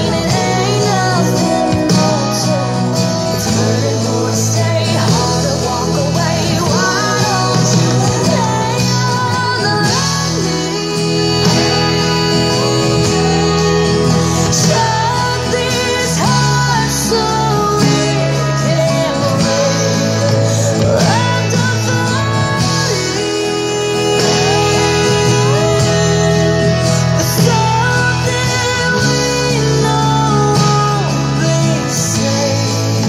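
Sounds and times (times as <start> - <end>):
acoustic guitar strumming: 0.0 - 33.0
country song with band: 0.0 - 33.0.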